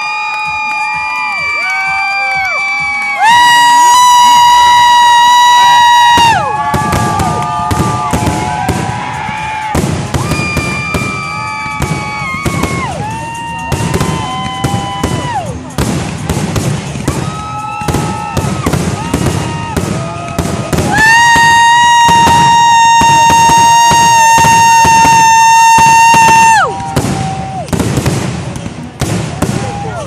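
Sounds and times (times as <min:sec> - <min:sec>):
fireworks exploding: 0:02.7 - 0:30.0.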